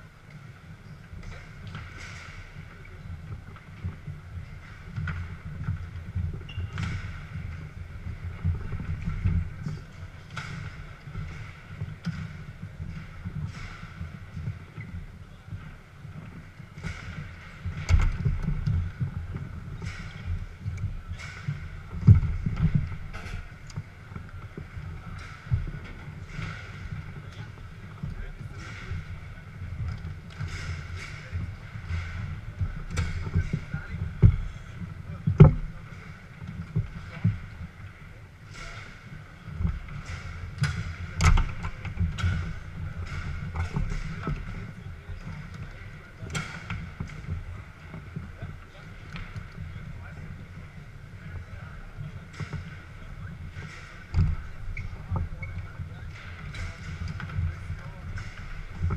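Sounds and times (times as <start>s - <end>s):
murmur of busy hall: 0.0s - 58.9s.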